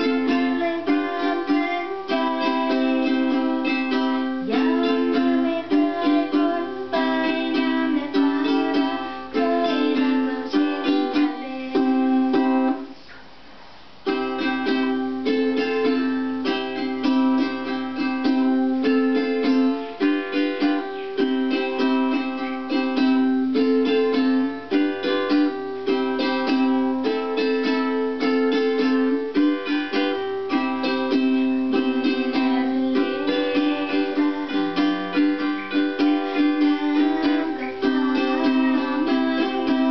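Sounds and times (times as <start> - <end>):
plucked string instrument melody: 0.0 - 13.0, 14.0 - 39.9.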